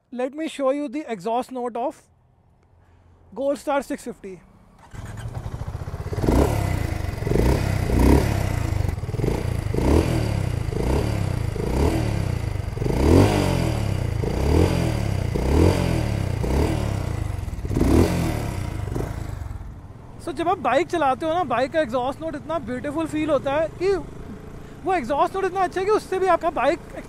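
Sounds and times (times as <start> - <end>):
motorcycle engine revving: 4.6 - 27.0.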